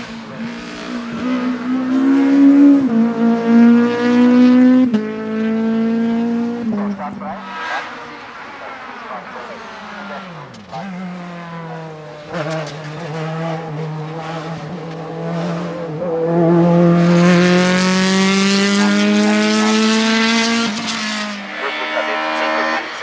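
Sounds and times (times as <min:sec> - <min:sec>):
racing car engine accelerating: 0:00.0 - 0:23.0.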